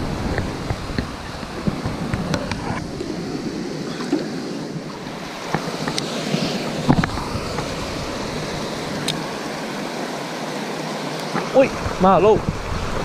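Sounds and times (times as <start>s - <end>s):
water rushing over boulders: 0.0s - 13.0s.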